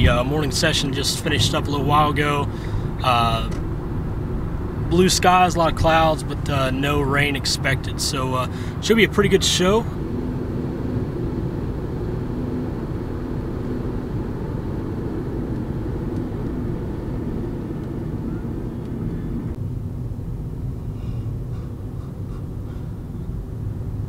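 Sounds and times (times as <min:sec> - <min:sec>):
car road noise: 0:00.0 - 0:24.0.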